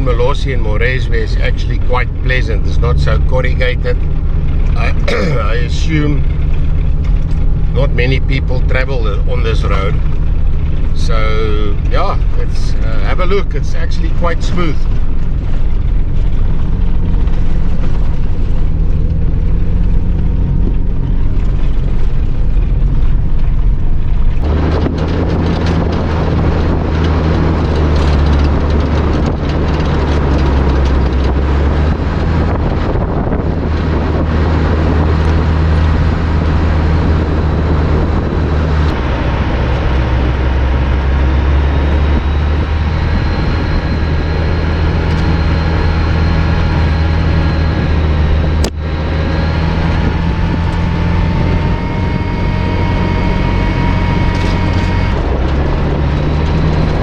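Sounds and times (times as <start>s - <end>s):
tyres on gravel road: 0.0s - 57.0s
vehicle engine drone: 0.0s - 57.0s.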